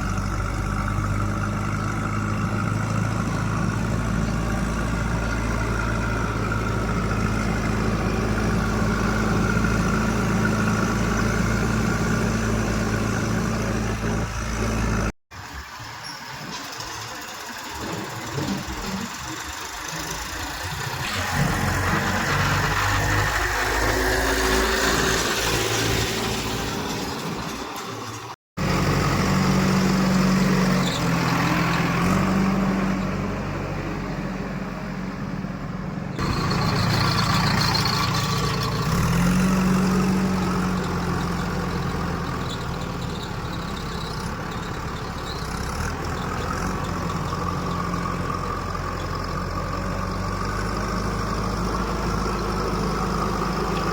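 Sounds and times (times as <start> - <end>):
heavy diesel engines revving: 0.0 - 53.9.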